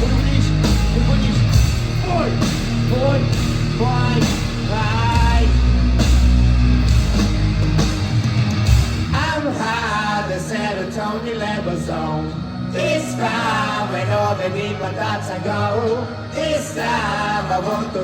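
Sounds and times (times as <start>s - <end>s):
person singing: 0.0s - 5.8s, 9.2s - 18.0s
rock band playing live: 0.0s - 18.0s.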